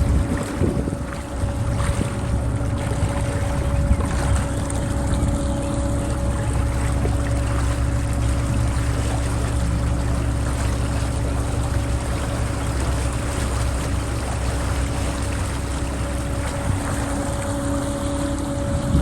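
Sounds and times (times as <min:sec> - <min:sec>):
boat engine droning: 0:00.0 - 0:19.0
water splashing past hull: 0:00.0 - 0:19.0.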